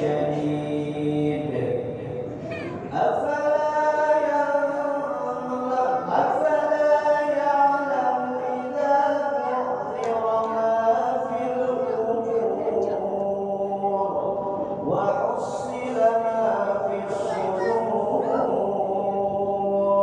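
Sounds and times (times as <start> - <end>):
man chanting: 0.0 - 20.0.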